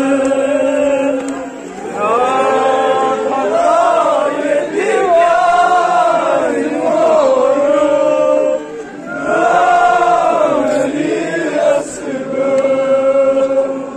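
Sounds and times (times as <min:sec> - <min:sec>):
male voices chanting a lament: 0:00.0 - 0:13.9.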